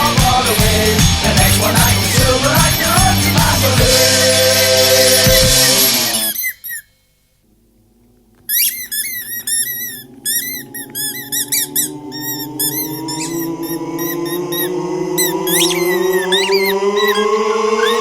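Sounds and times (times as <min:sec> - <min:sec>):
squeaky toy squeaking: 0:01.4 - 0:06.9, 0:08.5 - 0:18.0.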